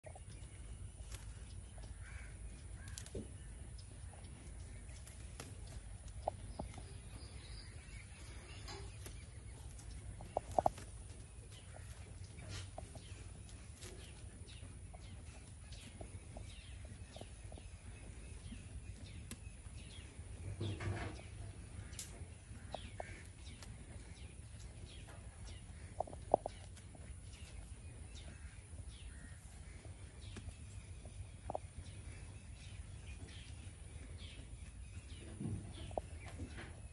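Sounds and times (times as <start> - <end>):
bird calls: 0.0 - 36.9.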